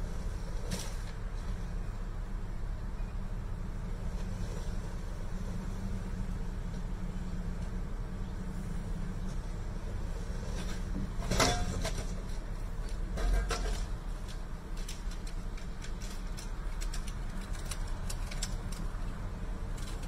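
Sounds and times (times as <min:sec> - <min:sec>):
idling vehicle engines: 0:00.0 - 0:20.0.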